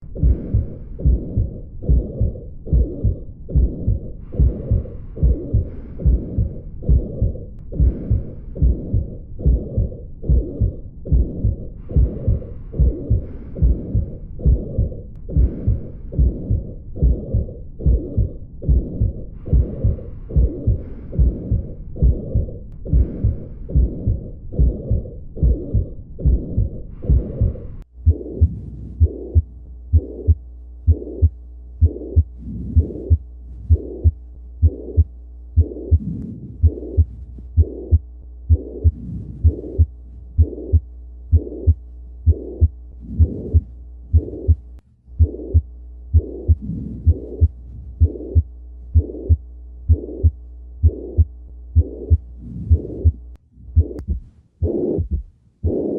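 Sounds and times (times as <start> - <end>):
heartbeat with murmur: 0.0 - 55.9
steady hum: 0.0 - 55.9.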